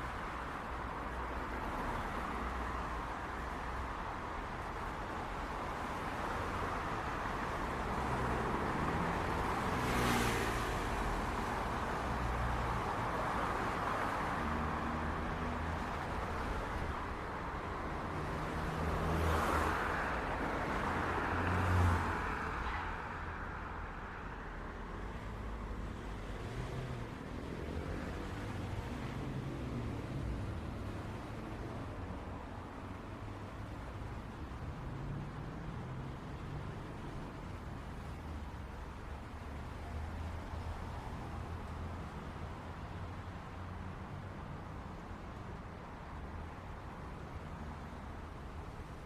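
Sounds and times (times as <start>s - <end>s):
traffic rumble: 0.0s - 49.0s
vehicles passing close by: 0.0s - 49.0s.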